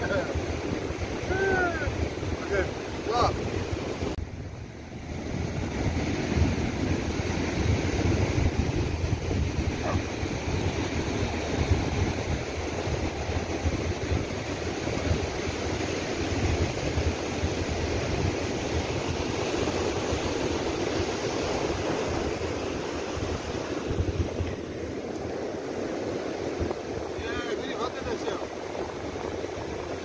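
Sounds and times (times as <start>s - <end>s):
breaking surf: 0.0s - 30.0s
wind buffeting microphone: 0.0s - 30.0s.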